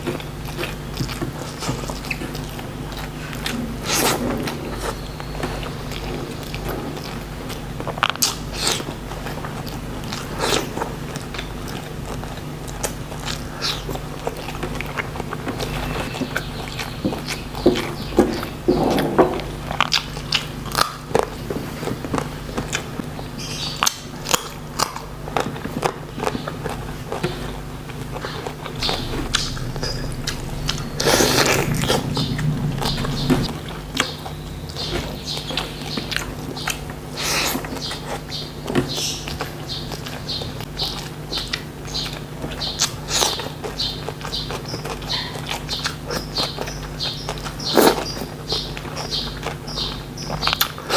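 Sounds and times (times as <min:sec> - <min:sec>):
person chewing crunchy food: 0:00.0 - 0:50.9
steady low hum: 0:00.0 - 0:50.9.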